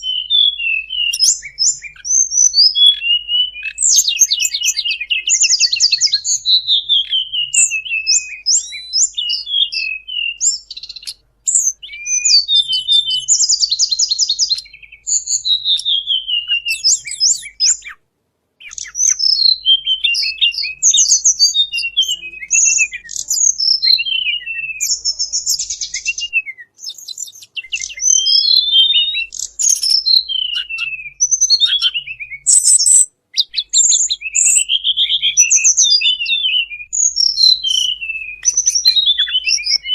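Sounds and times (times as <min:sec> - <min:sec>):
recorded bird song chirps and trills: 0:00.0 - 0:39.9.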